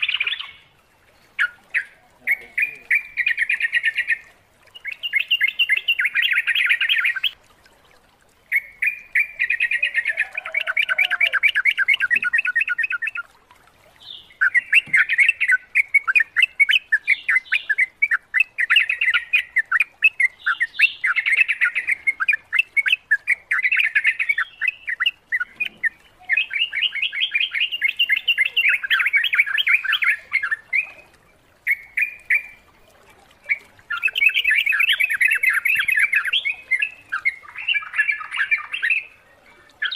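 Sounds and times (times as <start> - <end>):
bulbul singing bubbling chatter: 0.0 - 7.4, 14.0 - 39.9.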